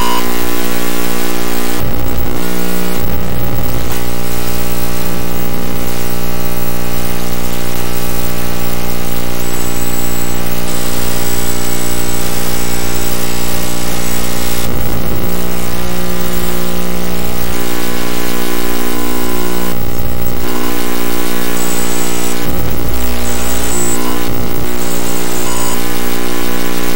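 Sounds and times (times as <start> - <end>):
buzzing electronic drone: 0.0 - 26.9.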